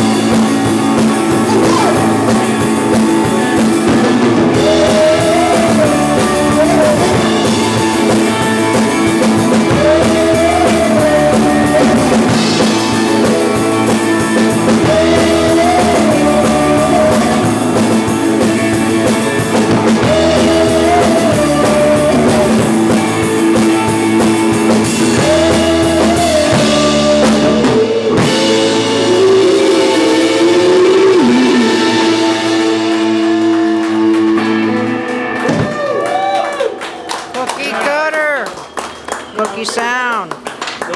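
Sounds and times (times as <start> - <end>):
deep bass: 0.0 - 36.6
drum kit: 0.0 - 36.7
electric guitars: 0.0 - 40.9.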